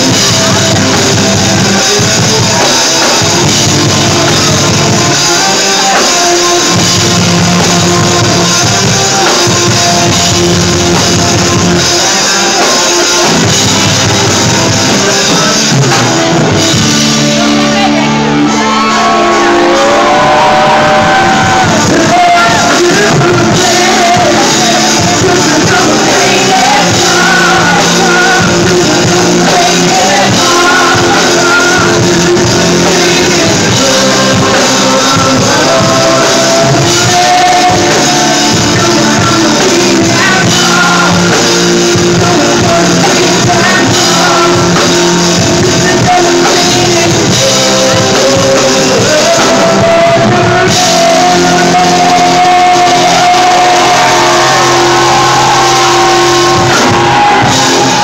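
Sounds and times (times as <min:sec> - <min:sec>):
person singing: 0:00.0 - 0:58.0
rock band playing: 0:00.0 - 0:58.0.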